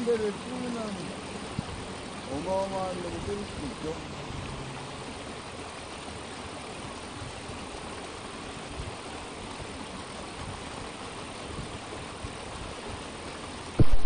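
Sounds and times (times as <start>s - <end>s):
water pouring into pond: 0.0s - 14.0s.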